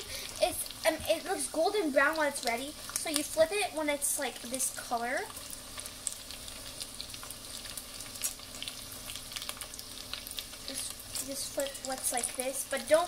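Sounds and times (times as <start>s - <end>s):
onion rings sizzling in oil: 0.0s - 13.0s.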